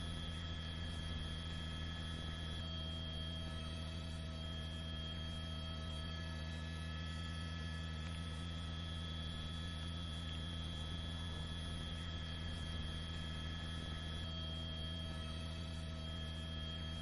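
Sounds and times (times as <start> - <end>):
constant thin tones: 0.0 - 17.0
steady hum: 0.0 - 17.0.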